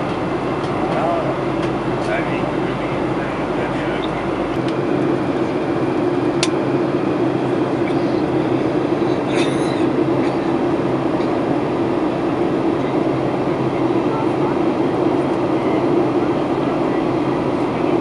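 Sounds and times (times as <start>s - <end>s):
airplane cabin engine drone: 0.0s - 18.0s.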